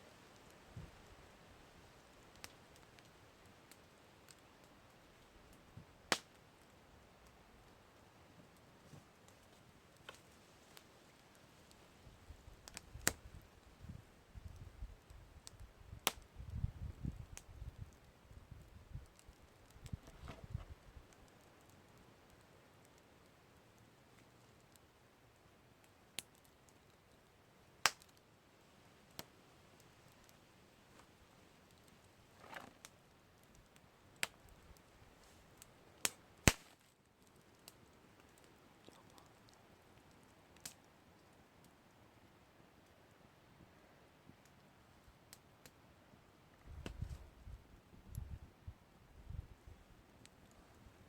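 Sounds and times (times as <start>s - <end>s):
faint fire hiss: 0.0s - 51.0s
campfire crackling and popping: 0.1s - 51.0s.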